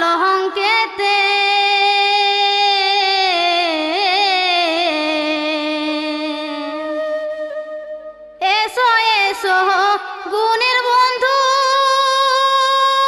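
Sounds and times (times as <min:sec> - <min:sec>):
woman singing folk song: 0:00.0 - 0:07.6, 0:08.4 - 0:13.0.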